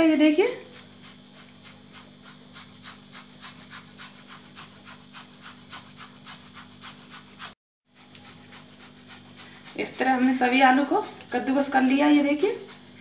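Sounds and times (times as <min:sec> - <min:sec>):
potato grating on metal grater: 0:00.1 - 0:13.0.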